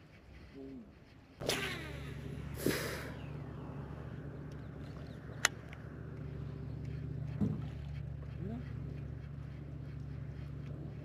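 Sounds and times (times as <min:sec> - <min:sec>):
boat motor running: 0:01.4 - 0:11.0.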